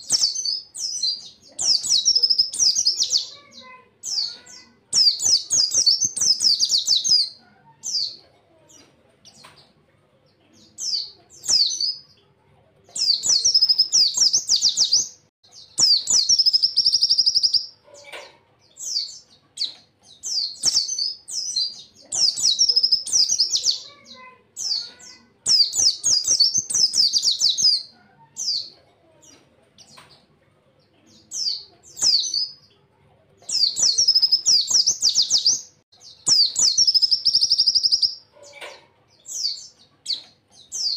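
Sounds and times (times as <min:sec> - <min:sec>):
bird chattering song: 0:00.0 - 0:40.9.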